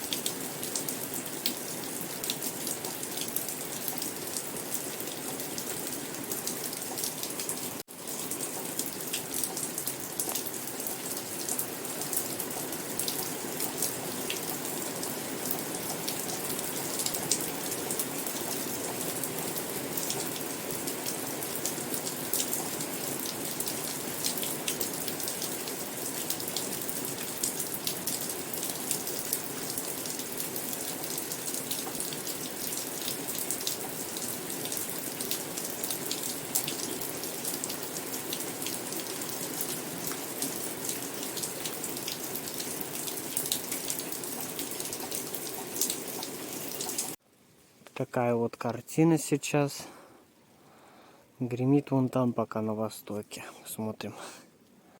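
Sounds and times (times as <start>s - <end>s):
steady rain falling: 0.0s - 47.9s
raindrops ticking on a surface: 0.0s - 48.1s.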